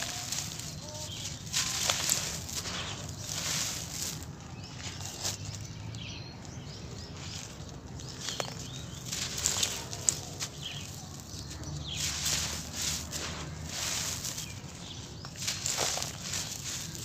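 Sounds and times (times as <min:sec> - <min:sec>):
grainy rustle of falling sand: 0:00.0 - 0:05.7, 0:08.6 - 0:17.0
lumps crunching: 0:00.0 - 0:17.0.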